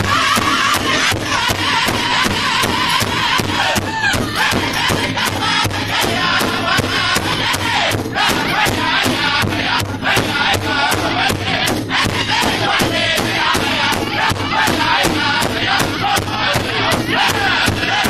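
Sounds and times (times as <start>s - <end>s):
large drum beating: 0.0s - 18.0s
men singing in high voices: 0.0s - 18.0s.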